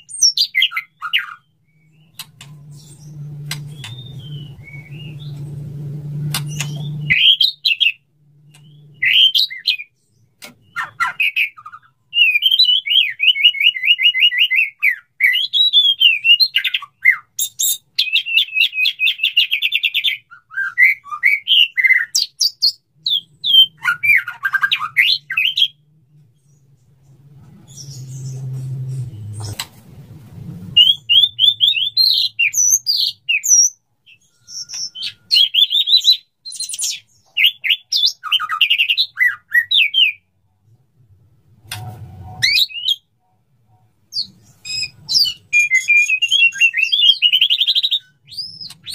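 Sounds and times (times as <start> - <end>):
bird singing whistles and trills: 0.0 - 5.4, 6.2 - 25.8, 27.6 - 29.6, 30.7 - 40.3, 42.3 - 43.1, 44.1 - 48.9.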